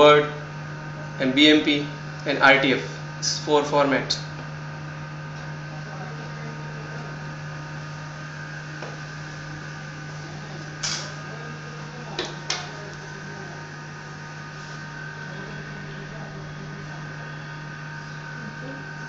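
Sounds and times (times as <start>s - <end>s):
electrical hum of equipment: 0.0s - 19.0s.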